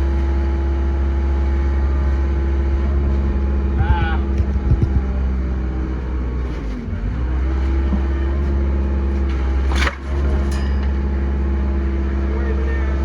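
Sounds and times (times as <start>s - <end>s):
construction machine engine running: 0.0s - 13.0s.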